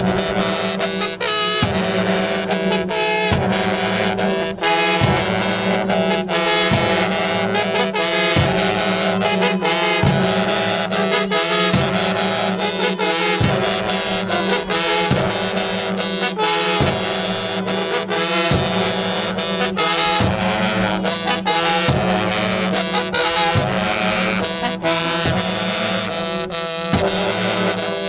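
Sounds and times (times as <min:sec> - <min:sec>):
brass horns playing held notes: 0:00.0 - 0:28.0
heavy bass drum beats: 0:00.0 - 0:28.0
quick percussion: 0:00.0 - 0:28.0.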